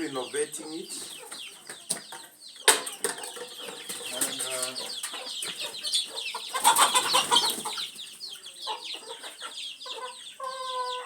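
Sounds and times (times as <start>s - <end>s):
chickens calling: 0.0s - 11.0s
chickens squawking: 0.0s - 11.0s.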